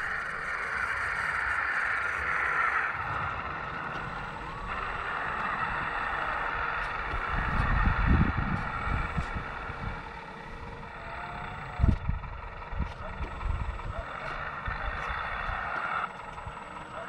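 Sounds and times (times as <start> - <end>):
electric hydraulic pump running: 0.0 - 17.0.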